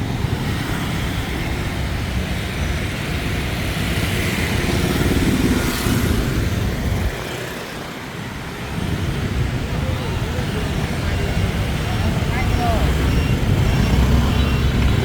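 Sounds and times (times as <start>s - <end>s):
motorbike and car traffic: 0.0s - 15.0s.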